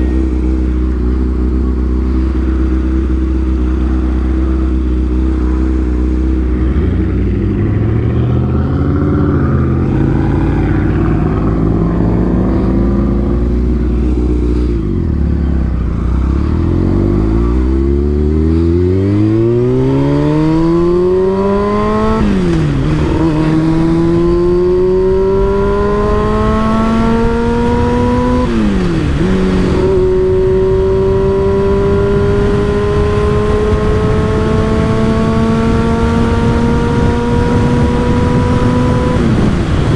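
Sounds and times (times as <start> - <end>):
motorcycle engine accelerating: 0.0 - 39.9
wind rush: 6.6 - 39.9.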